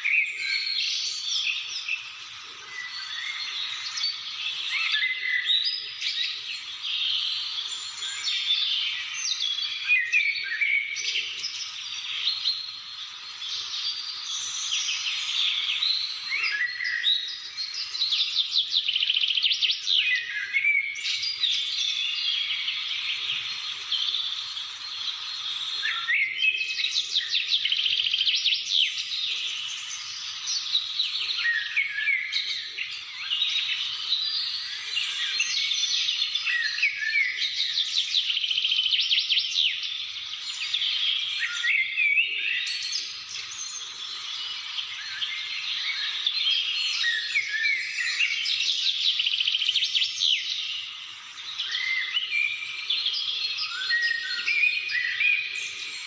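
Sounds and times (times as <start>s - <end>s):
songbirds chorus: 0.0s - 56.0s.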